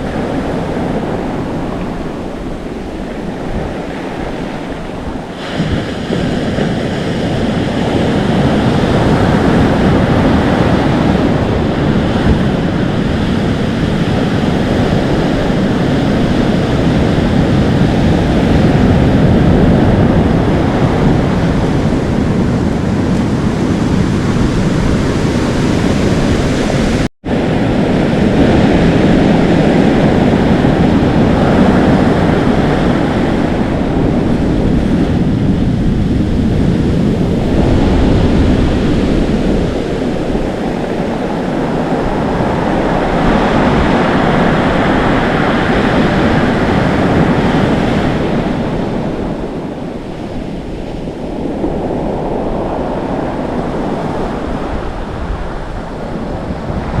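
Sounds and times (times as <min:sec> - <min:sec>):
surf waves breaking: 0:00.0 - 0:57.0
wind on microphone: 0:00.0 - 0:57.0.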